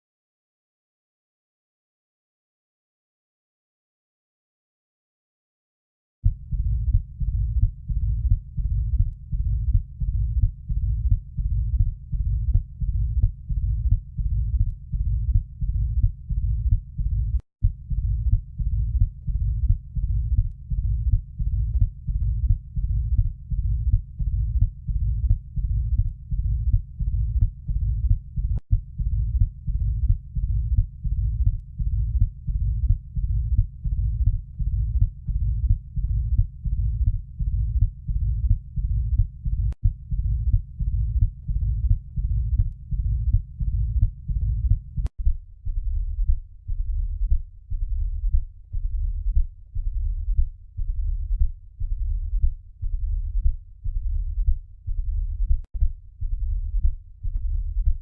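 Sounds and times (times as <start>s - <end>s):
heartbeat through stethoscope: 6.2s - 58.0s
heart murmur rumble: 6.3s - 58.0s.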